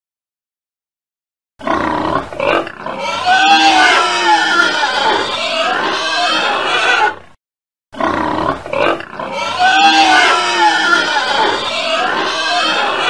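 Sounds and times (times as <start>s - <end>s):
piglets squealing and grunting: 1.6s - 7.3s, 8.0s - 13.0s.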